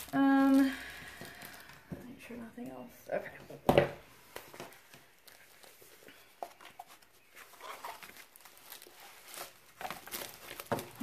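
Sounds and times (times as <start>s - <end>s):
paper wrapping rustling: 0.0s - 2.4s, 4.2s - 11.0s.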